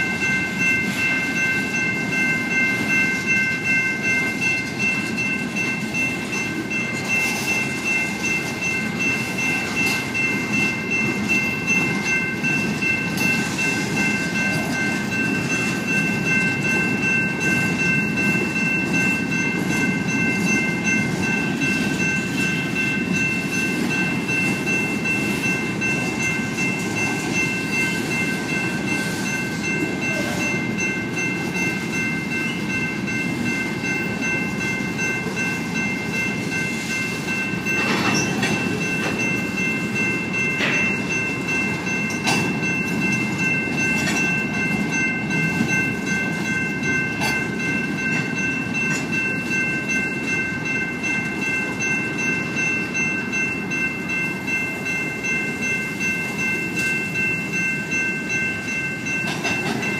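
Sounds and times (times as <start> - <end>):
crossing bells ringing: 0.0 - 59.9
train wheels rumbling on rails: 0.0 - 59.9.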